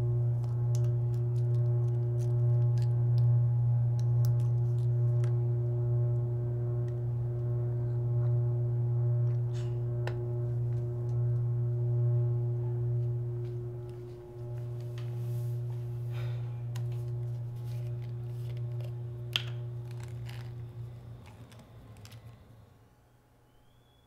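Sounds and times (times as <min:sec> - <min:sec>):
low music drone: 0:00.0 - 0:22.7.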